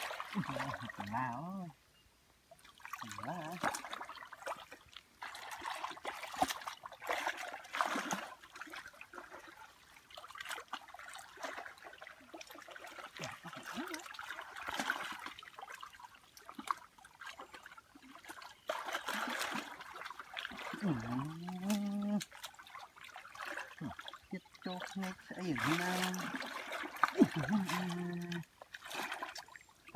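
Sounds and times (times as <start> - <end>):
muddy water sloshing: 0.0 - 1.8, 2.5 - 29.9.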